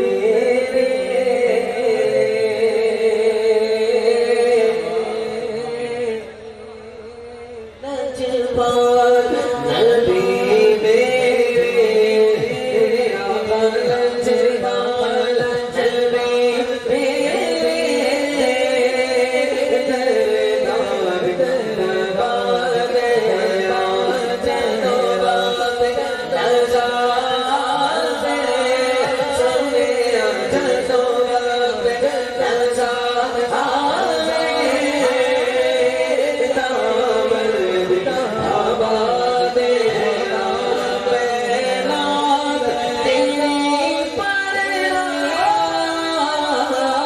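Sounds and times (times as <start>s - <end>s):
man singing into a microphone: 0.0s - 47.0s.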